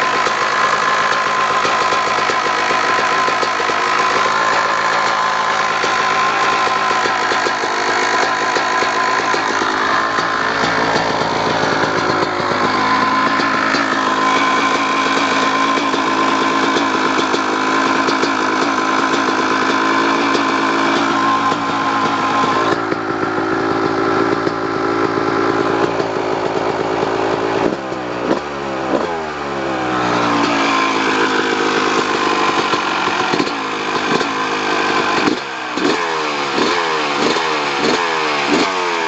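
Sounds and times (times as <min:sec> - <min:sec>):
engine ticking: 0:00.0 - 0:39.0
motorcycle engine idling: 0:00.0 - 0:39.0.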